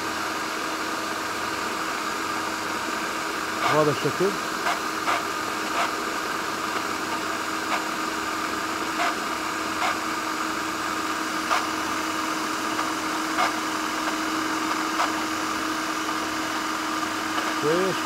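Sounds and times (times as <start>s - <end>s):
food processor motor humming: 0.0s - 18.0s.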